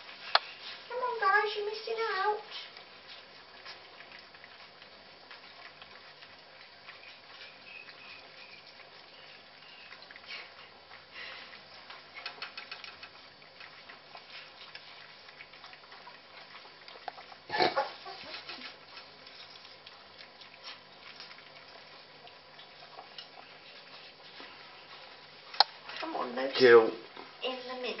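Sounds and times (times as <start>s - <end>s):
puppies crunching kibble: 0.0s - 28.0s.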